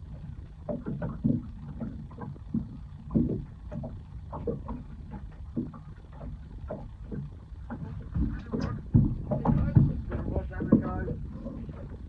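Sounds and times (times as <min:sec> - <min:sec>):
low rumble: 0:00.0 - 0:12.0
water slapping against boat hull: 0:00.0 - 0:12.0.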